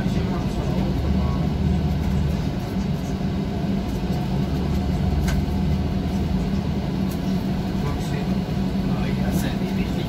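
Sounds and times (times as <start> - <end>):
bus engine and road drone: 0.0 - 10.0.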